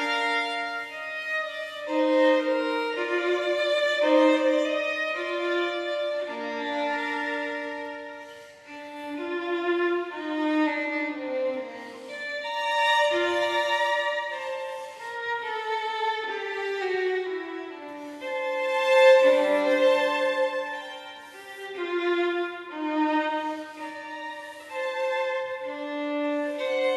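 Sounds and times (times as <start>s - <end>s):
violin playing slow notes: 0.0s - 26.9s.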